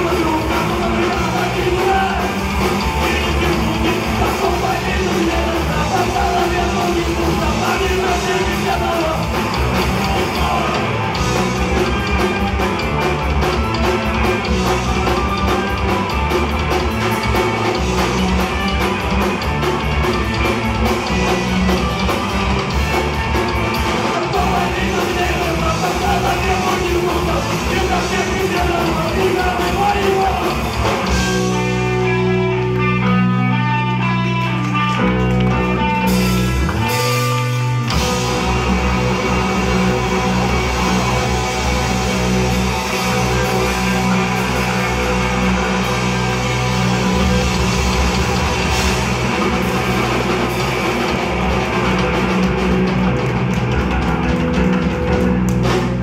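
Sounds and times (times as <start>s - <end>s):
distorted electric guitars: 0.0s - 56.0s
drum kit: 0.0s - 56.0s.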